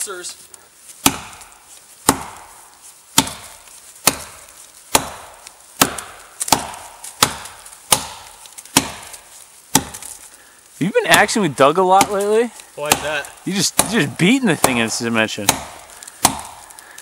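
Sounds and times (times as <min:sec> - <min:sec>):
axe chopping tree trunk: 0:00.9 - 0:10.3, 0:11.0 - 0:17.0.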